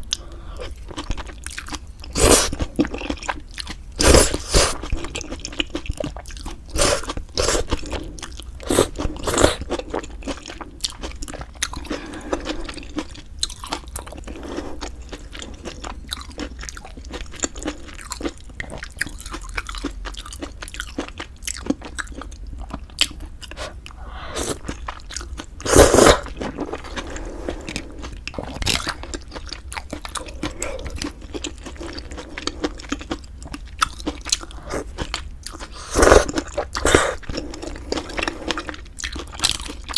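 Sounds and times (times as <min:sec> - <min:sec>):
chewing with crisp crunches: 0:00.0 - 0:39.9.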